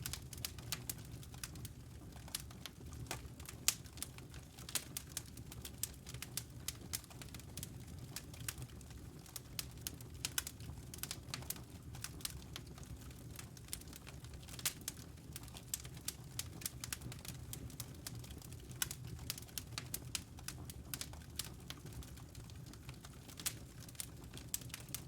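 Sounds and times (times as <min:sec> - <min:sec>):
logs crackling in fireplace: 0:00.0 - 0:25.0.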